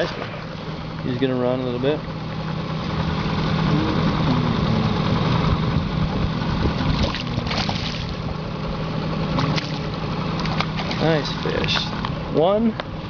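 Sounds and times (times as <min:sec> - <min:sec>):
boat motor idling: 0:00.0 - 0:13.0.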